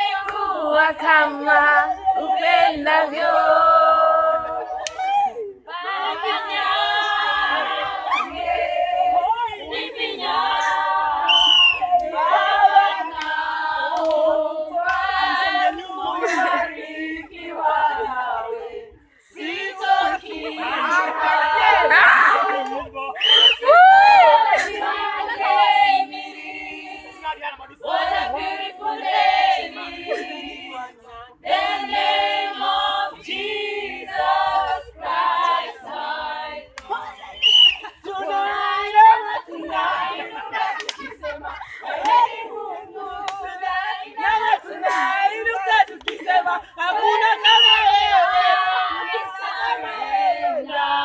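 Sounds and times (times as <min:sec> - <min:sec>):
voices singing long notes: 0:00.0 - 0:27.1, 0:27.8 - 0:51.0.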